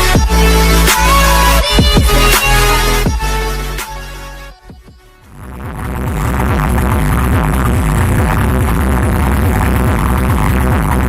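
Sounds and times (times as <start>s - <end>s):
loud electronic dance music: 0.0s - 11.0s.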